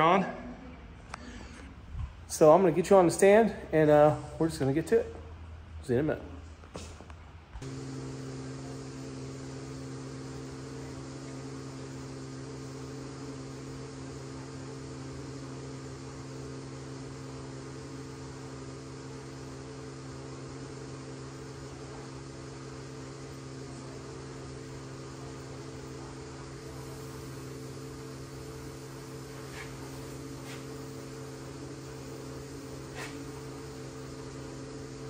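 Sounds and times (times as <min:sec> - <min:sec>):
electrical hum: 0:00.0 - 0:35.0
air hissing: 0:06.7 - 0:35.0.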